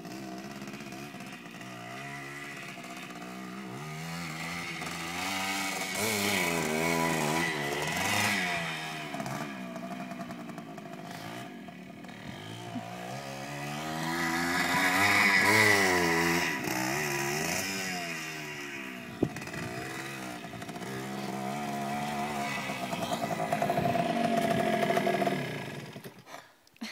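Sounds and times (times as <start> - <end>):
dirt bike engine revving: 0.0 - 26.3.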